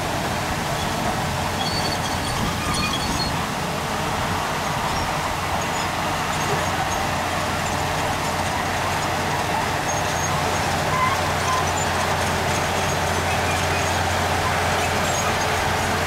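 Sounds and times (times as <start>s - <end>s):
diesel machinery engine rumble: 0.0s - 16.0s.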